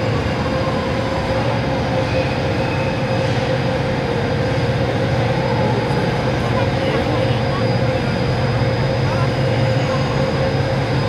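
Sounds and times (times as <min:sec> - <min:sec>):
overhead crane drive humming: 0:00.0 - 0:11.0.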